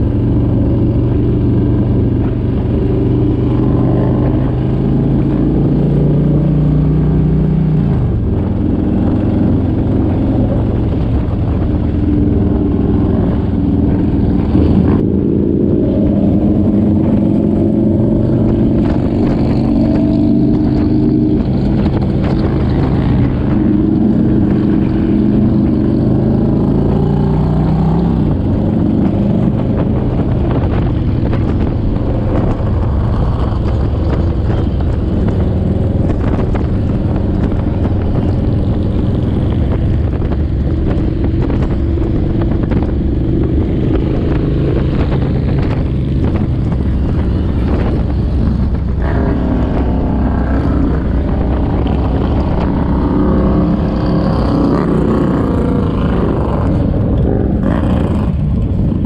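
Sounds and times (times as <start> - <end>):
motorcycle engine running: 0.0 - 59.0
steady rushing noise: 0.0 - 59.0.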